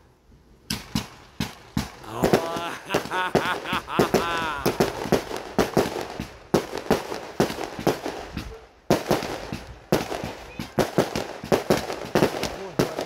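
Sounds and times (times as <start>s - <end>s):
fireworks bangs and bursts: 0.7s - 13.0s.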